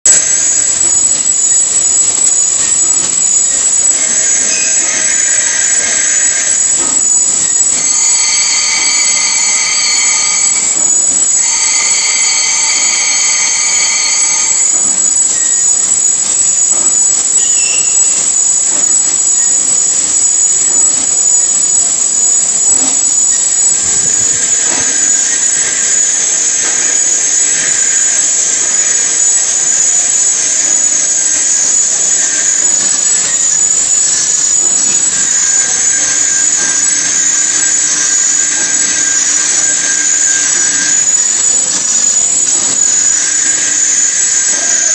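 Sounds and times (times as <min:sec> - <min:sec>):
cutting tool squealing on metal: 0:00.0 - 0:44.9
lathe machining whine: 0:00.0 - 0:44.9.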